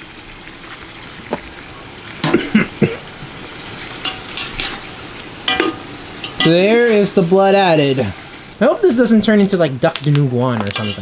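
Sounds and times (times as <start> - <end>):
meat sizzling in a pot: 0.0 - 8.6, 10.7 - 11.0.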